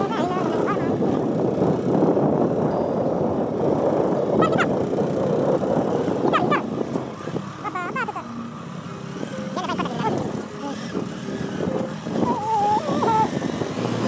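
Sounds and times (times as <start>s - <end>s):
motorcycle engine and wind: 0.0s - 14.0s.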